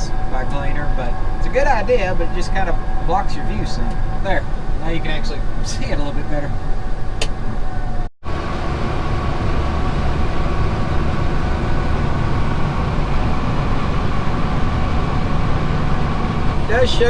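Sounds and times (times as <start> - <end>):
combine harvester low drone: 0.0 - 17.0
faint steady whine: 0.0 - 17.0.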